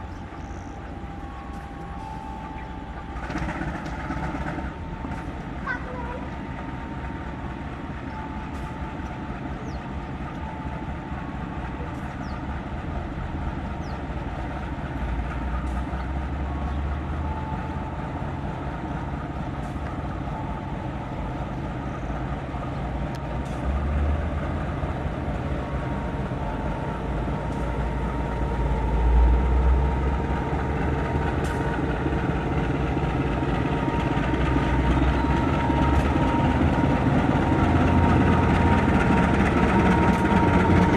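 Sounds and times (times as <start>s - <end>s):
diesel train rumbling by: 0.0s - 40.9s.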